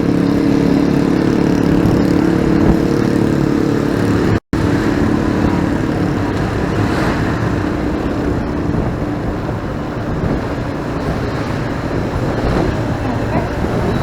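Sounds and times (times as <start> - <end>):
motorcycle engine: 0.0 - 14.0
passing vehicles: 0.0 - 14.0.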